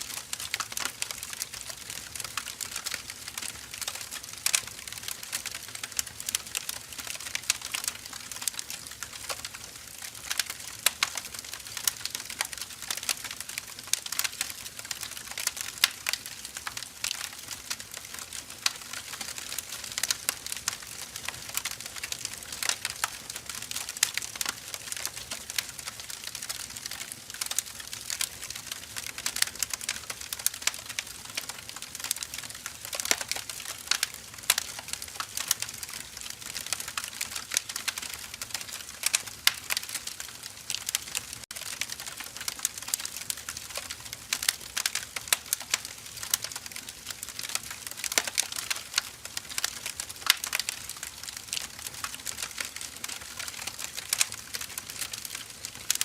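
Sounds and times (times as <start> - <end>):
firewood crackling: 0.0 - 56.0.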